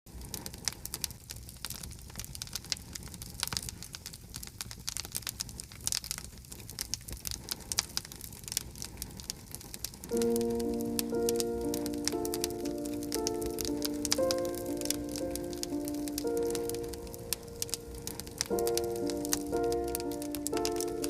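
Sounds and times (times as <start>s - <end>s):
campfire snaps and pops: 0.1s - 21.0s
low rumble of burning wood: 0.1s - 21.0s.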